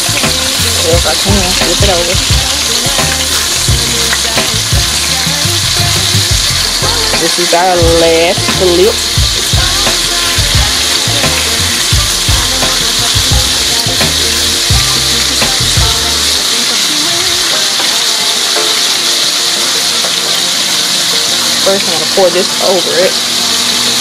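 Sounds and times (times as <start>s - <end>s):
fish sizzling in a pan: 0.0s - 24.0s.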